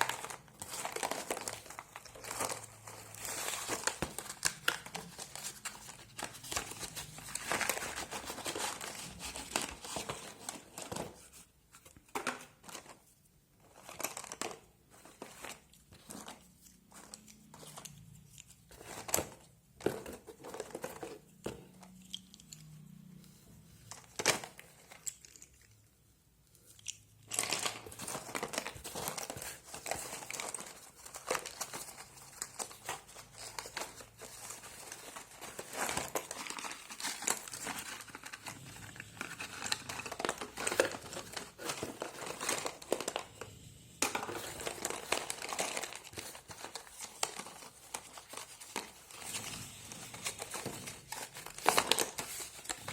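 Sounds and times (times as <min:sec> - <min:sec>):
packaging crinkling and tearing: 0:00.0 - 0:13.1, 0:13.7 - 0:22.3, 0:23.8 - 0:25.8, 0:26.6 - 0:52.9.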